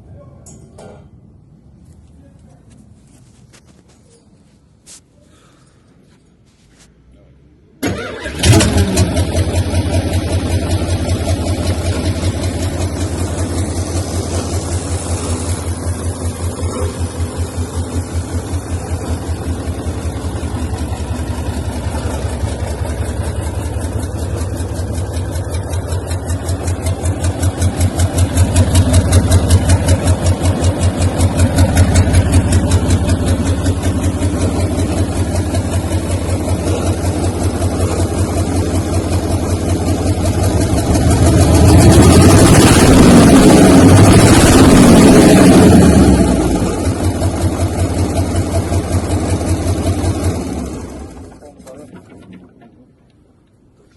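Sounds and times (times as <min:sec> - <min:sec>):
diesel engine idling and revving: 0:07.6 - 0:52.8.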